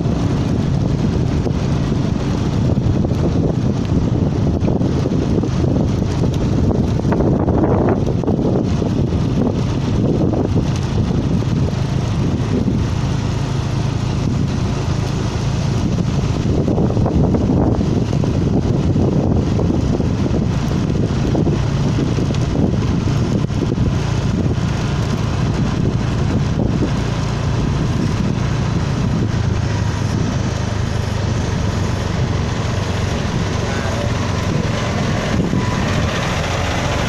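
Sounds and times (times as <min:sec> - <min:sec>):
diesel engine droning: 0:00.0 - 0:37.0.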